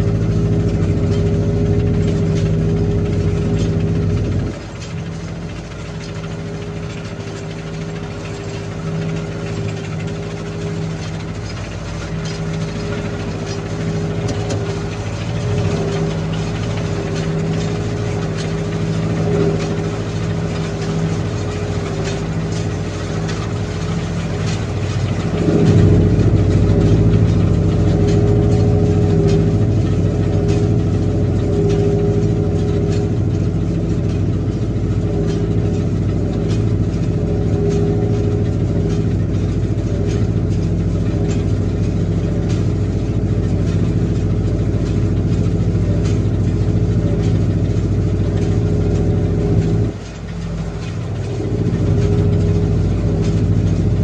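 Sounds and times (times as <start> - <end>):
old tractor engine running: 0.0 - 54.0.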